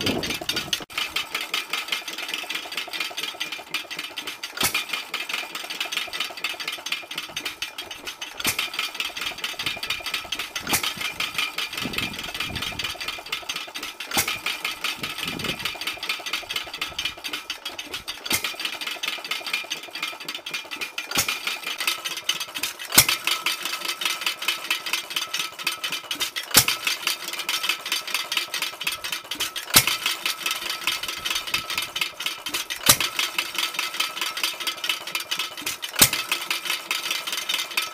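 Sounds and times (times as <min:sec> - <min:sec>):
engine firing stroke crack: 0:00.0 - 0:37.9
stationary engine clattering: 0:00.0 - 0:37.9.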